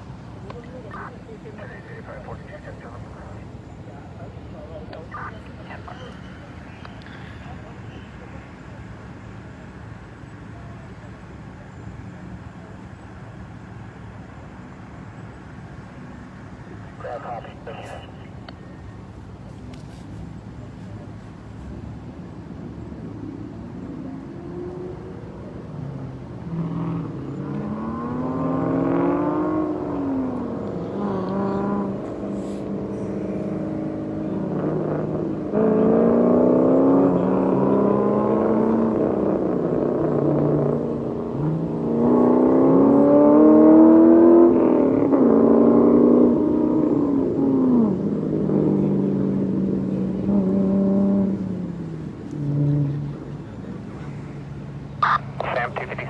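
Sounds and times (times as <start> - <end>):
vehicles accelerating past: 0.0 - 56.0.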